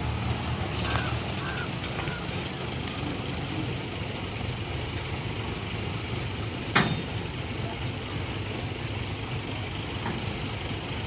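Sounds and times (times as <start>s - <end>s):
heavy machinery engine rumbling: 0.0s - 11.0s.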